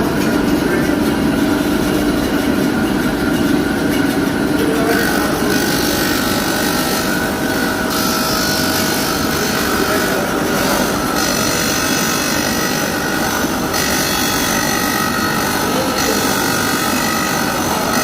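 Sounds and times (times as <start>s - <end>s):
power tool running: 0.0s - 18.0s.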